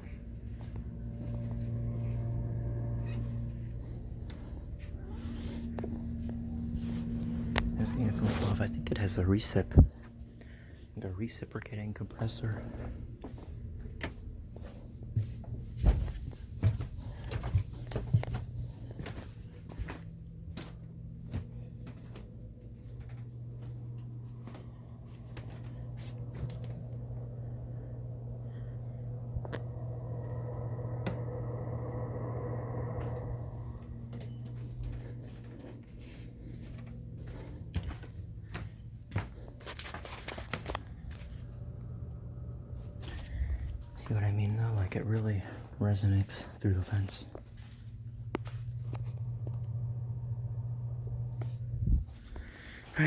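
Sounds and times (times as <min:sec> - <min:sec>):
air conditioner humming: 0:00.0 - 0:53.0
higher hum: 0:00.0 - 0:53.0.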